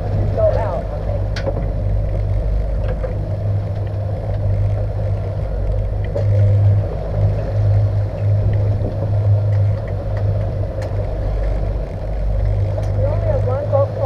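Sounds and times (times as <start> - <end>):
outboard motors running: 0.0 - 14.0
water rushing along hull: 0.0 - 14.0.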